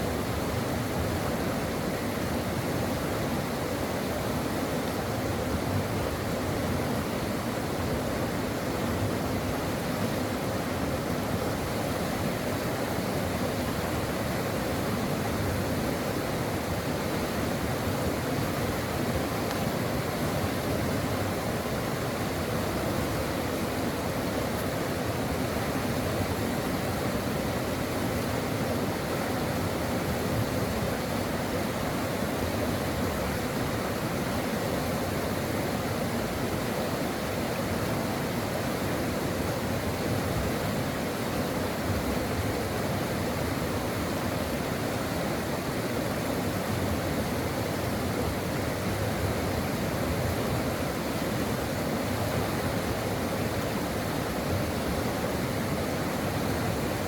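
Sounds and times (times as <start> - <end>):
stream of running water: 0.0 - 57.0.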